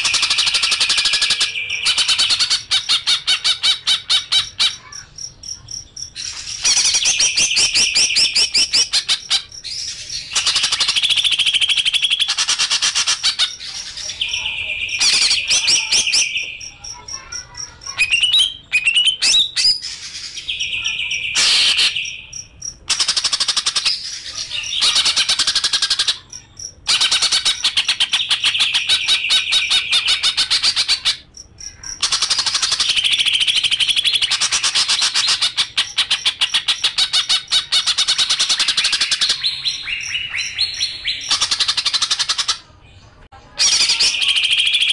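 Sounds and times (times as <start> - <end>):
songbird trilling and chattering: 0.0 - 42.6.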